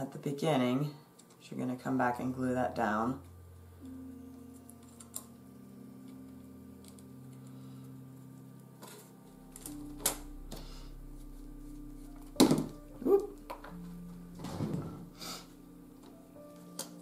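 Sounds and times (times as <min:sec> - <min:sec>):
soft ambient synth music: 0:01.9 - 0:17.0.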